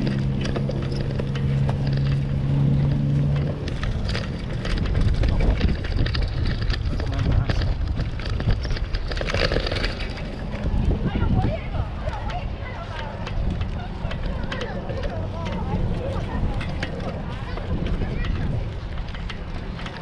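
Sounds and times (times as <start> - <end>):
bike wheels clicking on wooden planks: 0.0 - 20.0
engine hum: 0.0 - 20.0
wind rumbling on microphone: 0.0 - 20.0.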